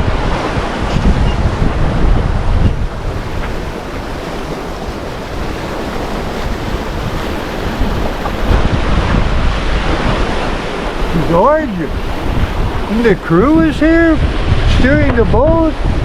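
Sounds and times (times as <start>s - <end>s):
water rushing along a hull: 0.0s - 16.0s
wind buffeting microphone: 0.0s - 16.0s.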